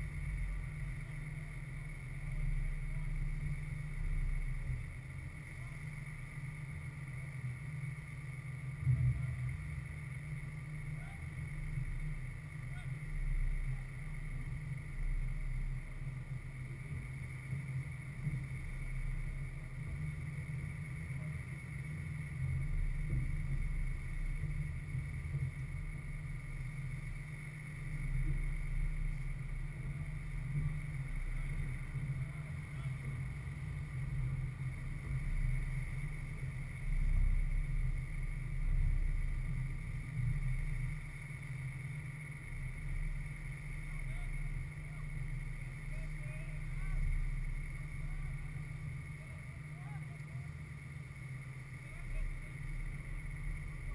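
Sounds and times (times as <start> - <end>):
faint steady hiss: 0.0 - 53.9.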